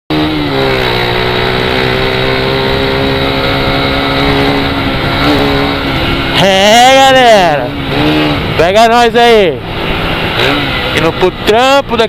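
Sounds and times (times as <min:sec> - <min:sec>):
motorcycle engine at steady revs: 0:00.1 - 0:12.0.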